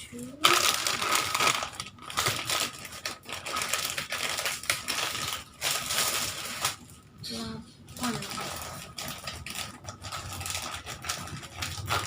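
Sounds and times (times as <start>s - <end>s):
plastic packets crinkling: 0.2s - 7.0s, 7.9s - 12.0s.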